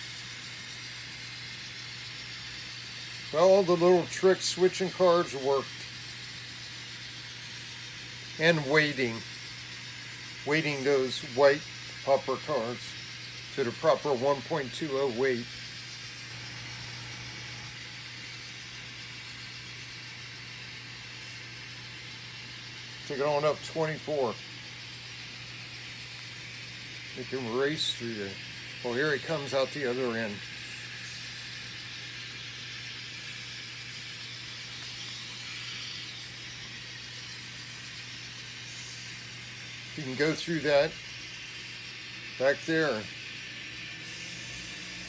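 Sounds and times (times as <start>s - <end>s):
even hiss: 0.0s - 45.0s
model train diesel engine drone: 0.0s - 45.0s.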